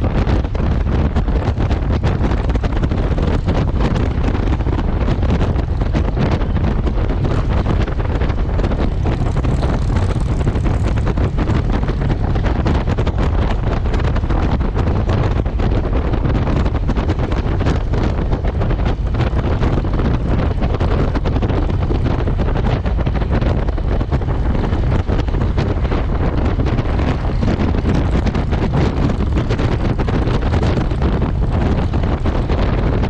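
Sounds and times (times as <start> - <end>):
road noise: 0.0 - 33.0
wind buffeting microphone: 0.0 - 33.0
motorcycle engine: 0.1 - 33.0.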